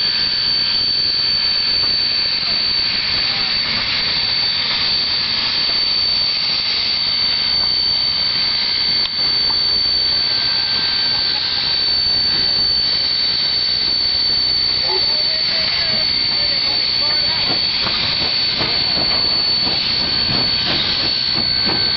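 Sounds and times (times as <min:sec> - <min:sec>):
high whistling tone: 0:00.0 - 0:21.9
hiss and roar of escaping steam: 0:00.0 - 0:21.9.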